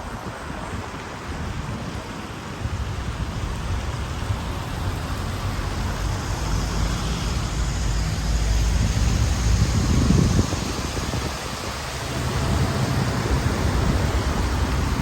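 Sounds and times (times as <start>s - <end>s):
rain hissing on wet road: 0.0s - 15.0s
vehicle rumbling: 0.0s - 15.0s.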